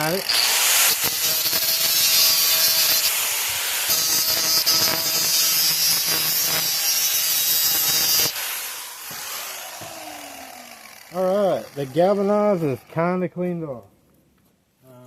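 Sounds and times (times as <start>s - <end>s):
power grinder grinding metal: 0.0s - 13.3s.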